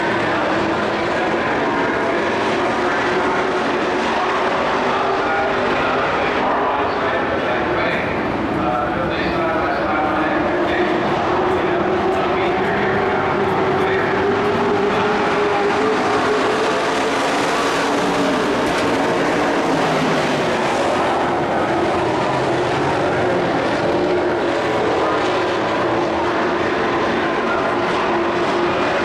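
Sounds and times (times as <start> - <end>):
race truck engines droning: 0.0 - 29.0.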